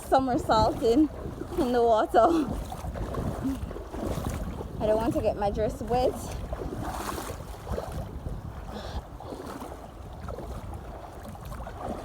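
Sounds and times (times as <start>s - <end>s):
rushing river water: 0.0s - 12.0s
wind on microphone: 0.0s - 12.0s.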